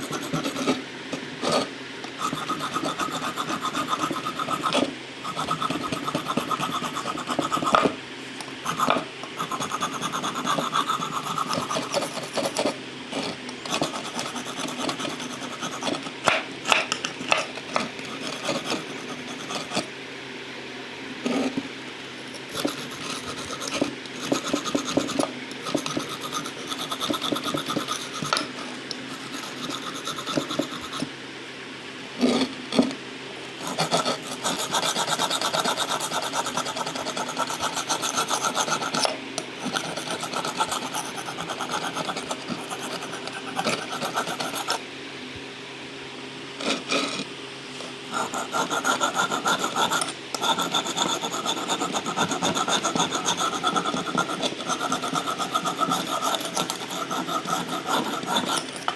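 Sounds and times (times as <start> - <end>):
hand scraping and rubbing metal: 1.4 - 8.0, 8.6 - 16.3, 17.2 - 19.9, 22.4 - 31.1, 33.6 - 44.8, 46.6 - 58.9.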